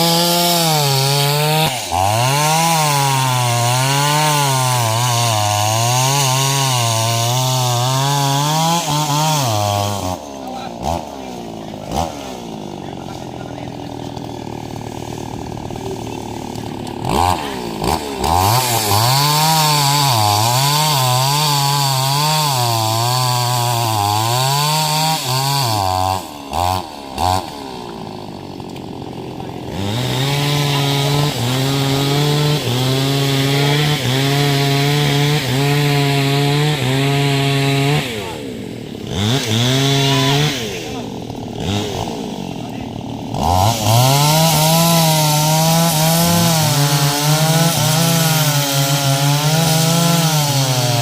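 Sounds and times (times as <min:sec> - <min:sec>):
chainsaw revving and cutting wood: 0:00.0 - 0:51.0.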